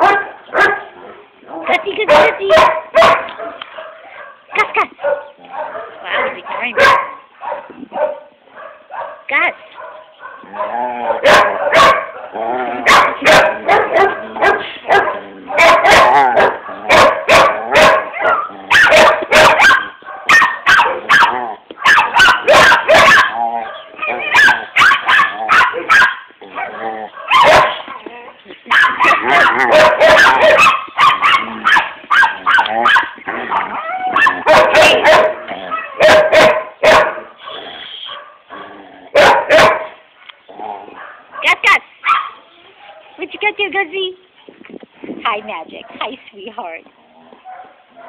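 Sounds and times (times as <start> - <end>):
dog barking and whining: 0.0 - 0.9, 1.6 - 40.0, 40.9 - 43.2.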